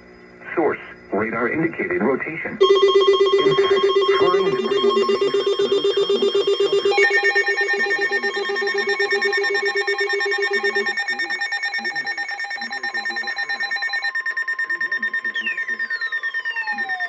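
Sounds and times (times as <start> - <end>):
warbling emergency alarm tone: 2.6 - 17.0.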